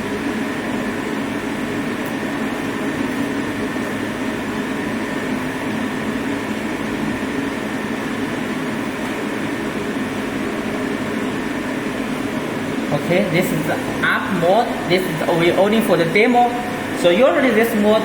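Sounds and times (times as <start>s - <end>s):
factory machinery hum: 0.0s - 18.0s.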